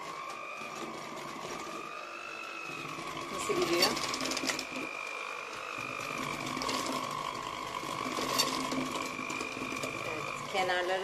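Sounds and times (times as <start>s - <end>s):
electric hand mixer whine: 0.0s - 11.0s.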